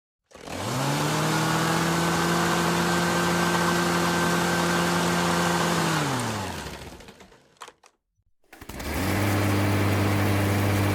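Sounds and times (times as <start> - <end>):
lawn mower engine: 0.3 - 7.5, 8.5 - 10.9.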